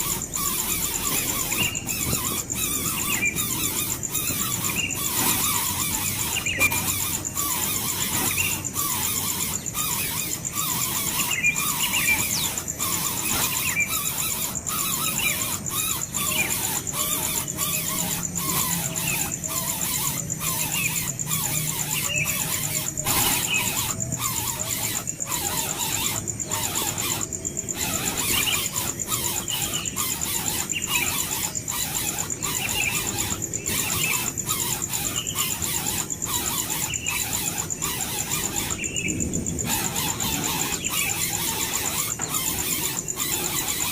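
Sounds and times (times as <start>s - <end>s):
nestling birds begging chirps: 0.0s - 43.9s.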